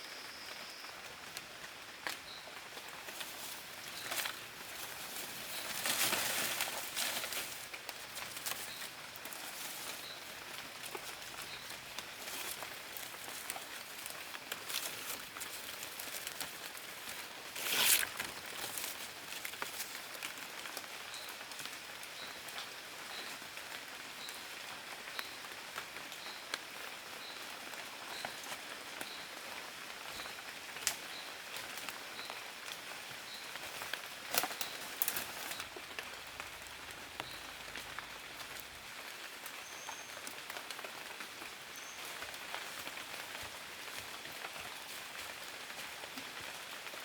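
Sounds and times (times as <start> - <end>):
outdoor crackling and pattering: 0.7 - 47.0.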